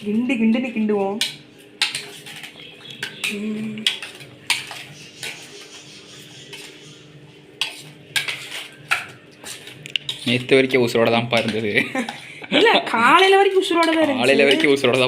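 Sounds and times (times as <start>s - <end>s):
spoon clinking and scraping bowl: 1.2s - 15.0s.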